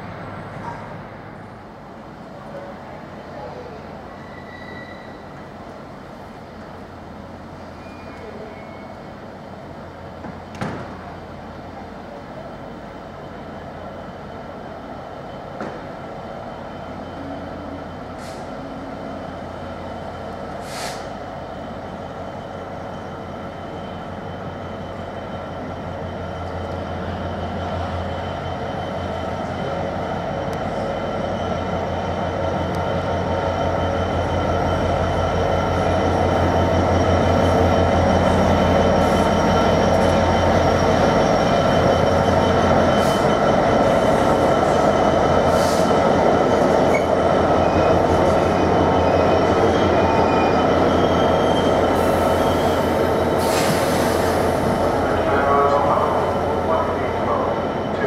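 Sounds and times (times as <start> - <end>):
train humming with high whine: 0.0 - 58.0.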